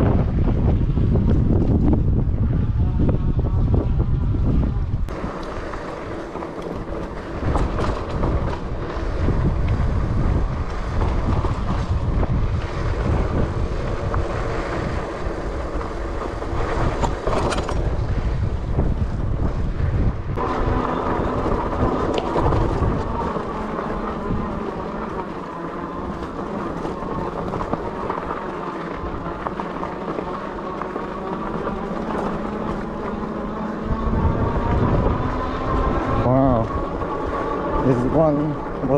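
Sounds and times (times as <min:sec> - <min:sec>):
bike tires rumbling over gravel: 0:00.0 - 0:38.9
wind on microphone: 0:00.0 - 0:38.9.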